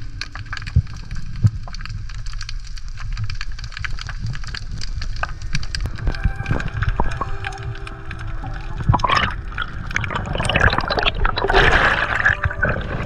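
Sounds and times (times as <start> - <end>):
underwater crackle of clicks: 0.0 - 12.9
low water rumble: 0.0 - 13.0.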